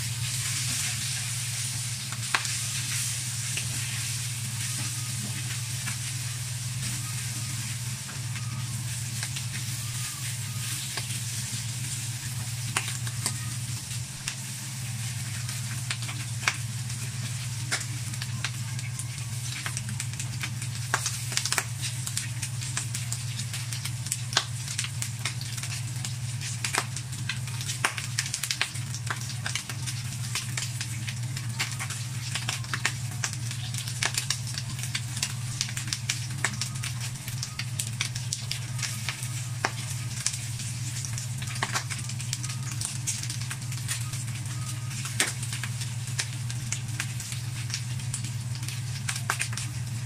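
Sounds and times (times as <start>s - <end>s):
pork sizzling in a wok: 0.0s - 50.0s
sharp pops from frying: 0.0s - 50.0s
steady low hum: 0.0s - 50.0s.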